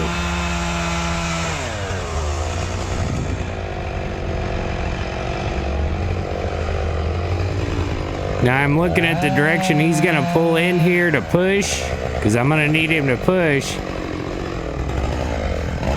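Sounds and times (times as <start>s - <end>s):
chainsaw cutting wood: 0.0s - 15.9s.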